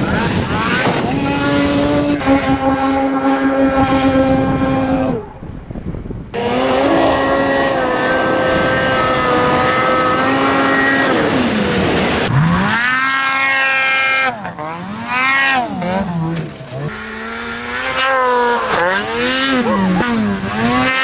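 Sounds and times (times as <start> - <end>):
snowmobile engines revving: 0.0 - 5.4, 6.3 - 21.0.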